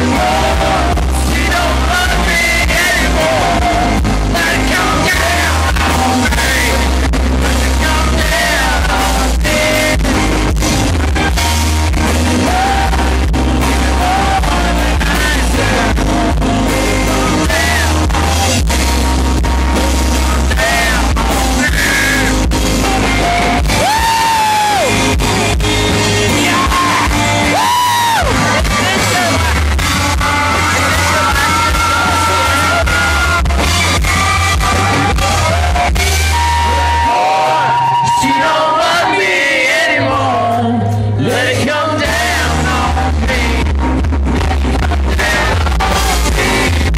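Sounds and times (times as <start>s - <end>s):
live rock band playing: 0.0s - 46.9s
man singing: 0.0s - 46.9s.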